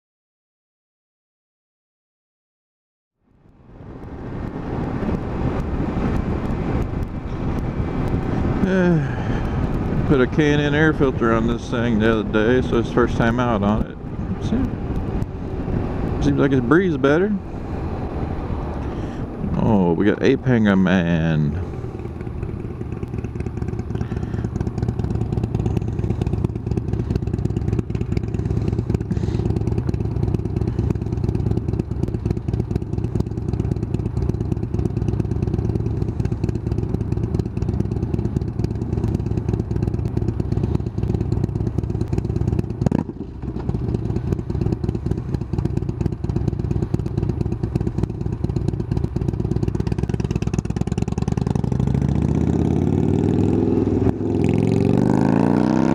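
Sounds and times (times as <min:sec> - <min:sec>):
motorcycle engine running: 0:03.4 - 0:55.9.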